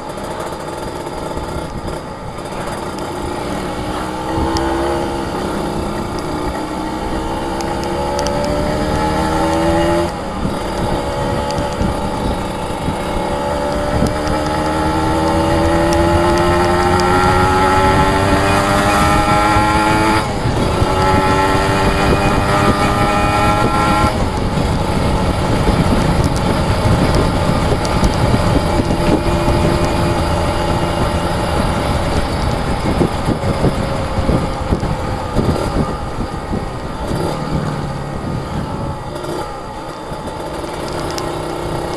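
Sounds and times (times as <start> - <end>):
two-stroke motorcycle engine accelerating: 0.0 - 41.9.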